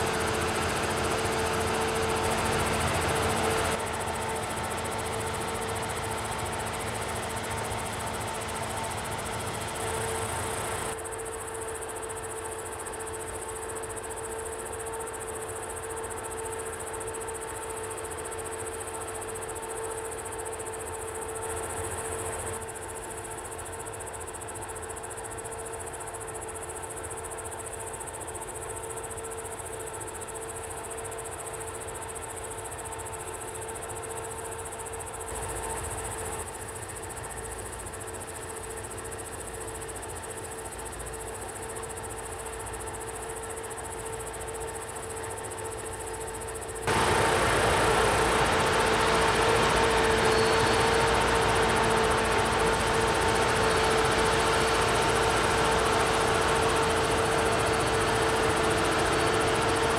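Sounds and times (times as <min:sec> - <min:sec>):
combine harvesters humming: 0:00.0 - 0:23.0, 0:33.8 - 0:59.9
crickets chirring: 0:00.0 - 0:59.9.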